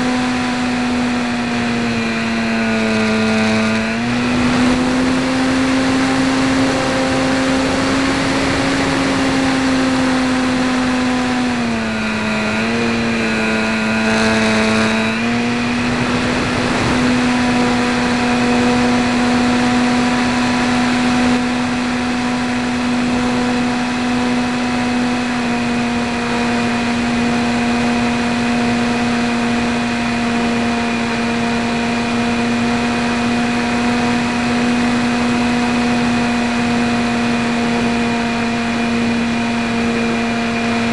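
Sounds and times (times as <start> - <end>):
electric motor propeller buzzing: 0.0 - 40.9.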